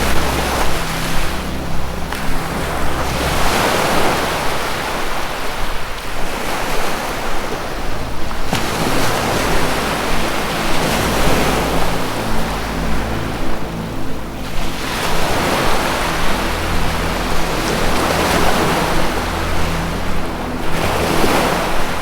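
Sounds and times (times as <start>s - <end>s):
ocean surf washing in: 0.0s - 22.0s
sustained music drone: 0.0s - 22.0s.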